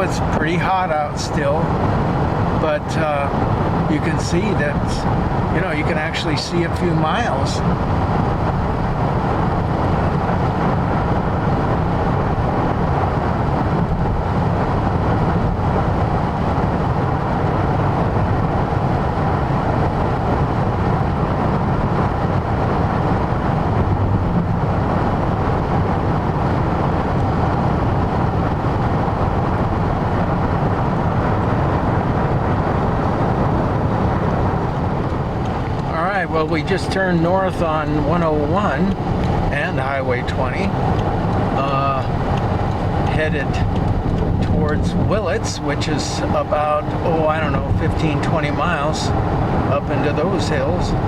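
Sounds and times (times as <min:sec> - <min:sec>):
car cabin road and engine noise: 0:00.0 - 0:51.0.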